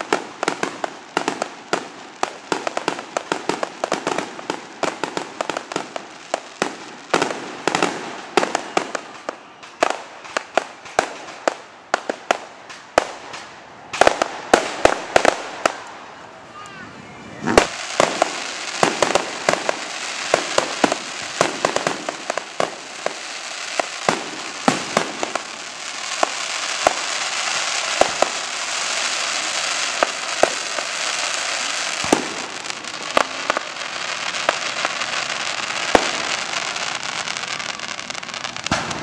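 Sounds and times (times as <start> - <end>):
fireworks bangs: 0.0 - 39.0
fireworks crackling hiss: 0.0 - 39.0.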